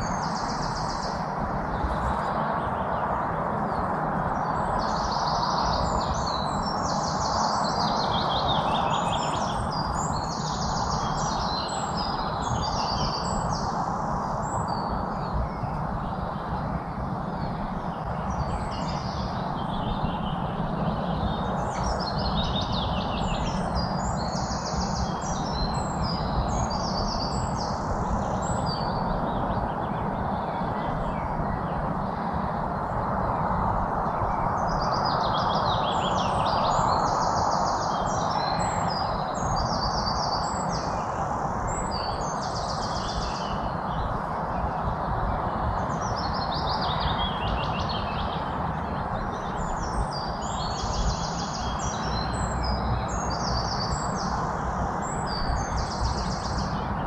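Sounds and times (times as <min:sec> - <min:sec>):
songbirds chirping: 0:00.0 - 0:57.0
steady background noise: 0:00.0 - 0:57.0.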